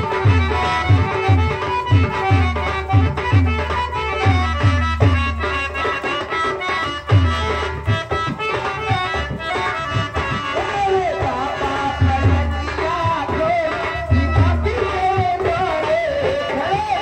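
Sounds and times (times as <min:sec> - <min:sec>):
reed instrument melody: 0:00.0 - 0:16.0
hand drums: 0:00.0 - 0:17.0.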